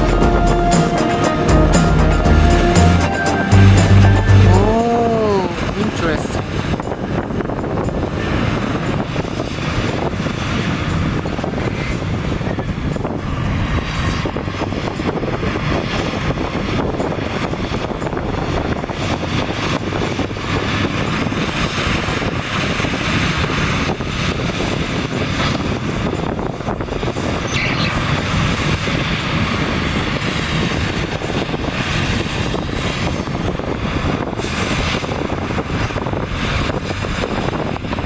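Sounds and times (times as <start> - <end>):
heavy diesel machinery running: 0.0 - 38.0.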